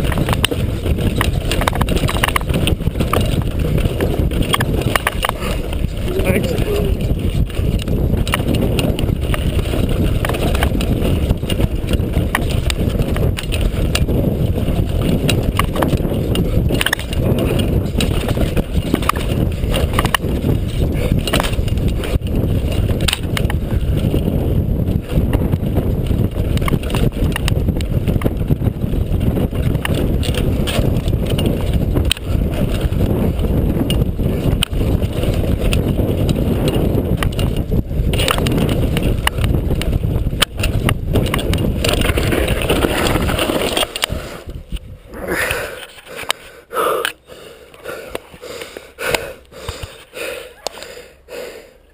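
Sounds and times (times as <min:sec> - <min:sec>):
bike knocking and rattling: 0:00.0 - 0:50.8
low rumble of tyres and air: 0:00.0 - 0:51.9.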